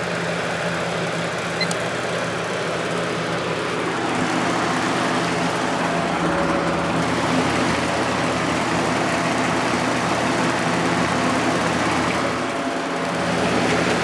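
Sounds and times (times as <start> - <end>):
fan motor hum: 0.0 - 14.0.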